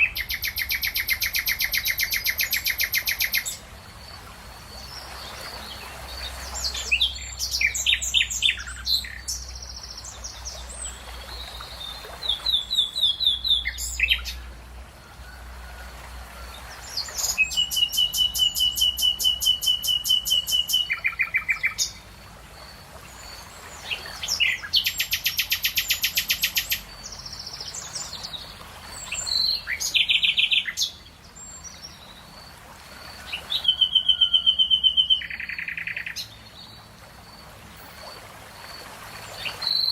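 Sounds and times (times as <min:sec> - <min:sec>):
songbirds singing: 0:00.0 - 0:15.8, 0:16.4 - 0:39.9.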